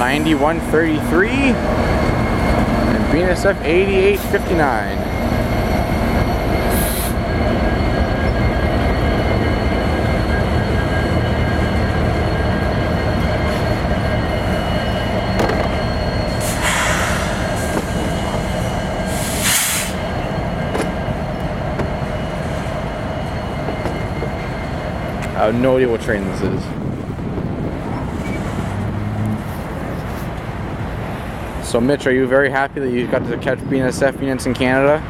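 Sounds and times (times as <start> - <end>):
thin squealing tones: 0.0 - 31.5
train wheels rumbling on rails: 0.0 - 35.0.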